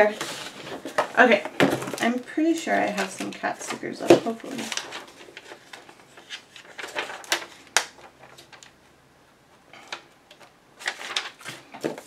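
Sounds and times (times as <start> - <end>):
sticker packs rustling: 0.0 - 8.8, 9.8 - 12.0.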